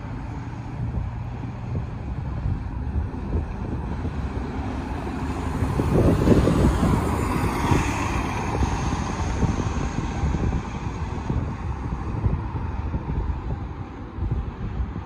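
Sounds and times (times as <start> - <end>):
bus driving past: 0.0 - 15.0.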